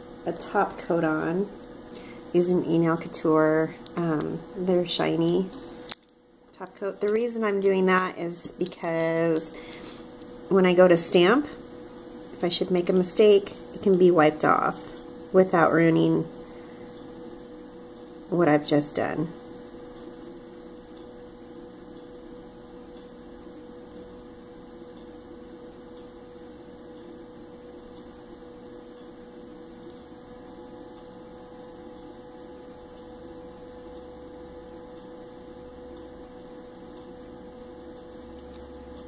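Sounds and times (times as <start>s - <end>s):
constant held tone: 0.0s - 39.0s
steady background hum: 0.0s - 39.0s.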